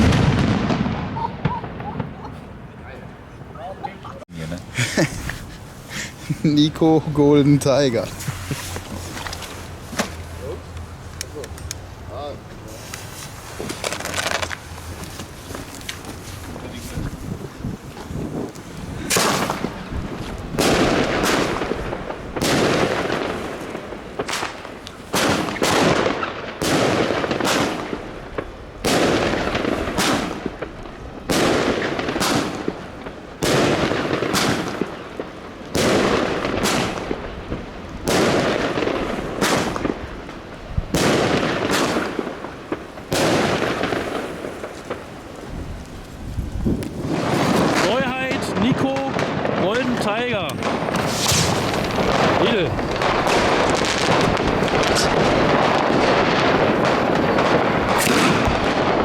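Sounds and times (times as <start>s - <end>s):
firework bangs: 0.0s - 3.5s, 4.4s - 59.0s.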